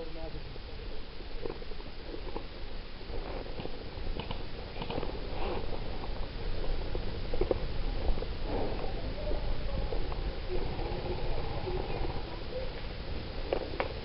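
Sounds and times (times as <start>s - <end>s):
low rumble on microphone: 0.0s - 14.0s
rustling and crackling: 0.0s - 14.0s.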